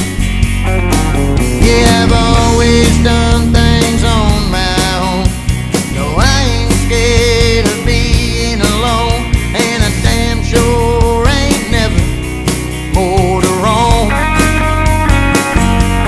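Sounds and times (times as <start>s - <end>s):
rock music with bent notes: 0.0s - 16.0s.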